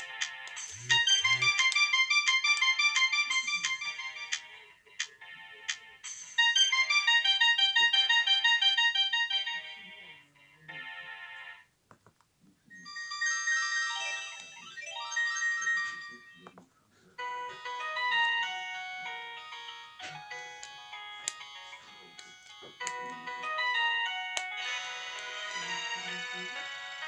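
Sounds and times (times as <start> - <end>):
phone ringtone melodies: 0.0 - 4.5, 6.0 - 9.8, 12.7 - 16.4, 17.2 - 27.0.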